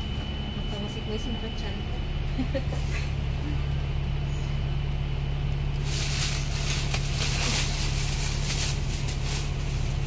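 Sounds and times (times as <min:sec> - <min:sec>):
bus engine droning: 0:00.0 - 0:10.0.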